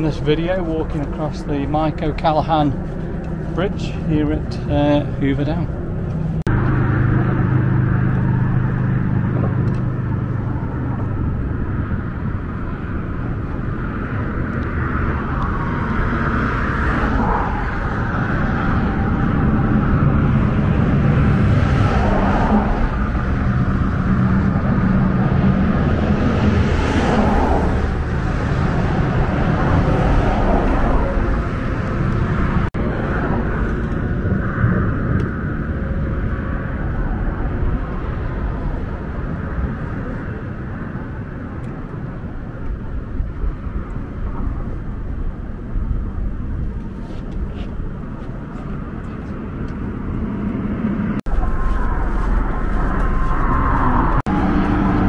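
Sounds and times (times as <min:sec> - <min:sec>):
rumble of road traffic: 0:00.0 - 0:55.0
vehicle passing: 0:00.0 - 0:55.0.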